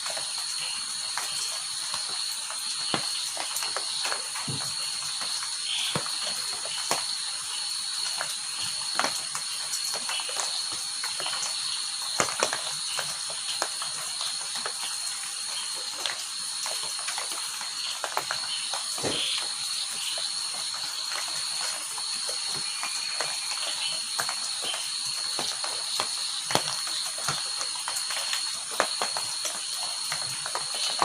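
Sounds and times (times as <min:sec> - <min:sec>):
insect trill: 0:00.0 - 0:31.0
rain falling: 0:00.0 - 0:31.0.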